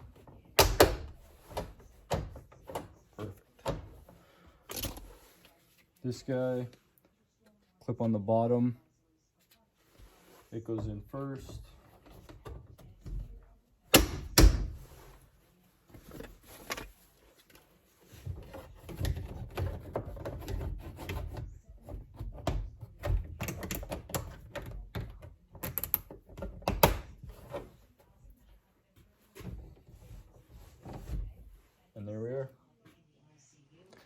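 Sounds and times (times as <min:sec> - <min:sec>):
rattling and handling noise: 0:00.0 - 0:07.2, 0:09.8 - 0:31.7.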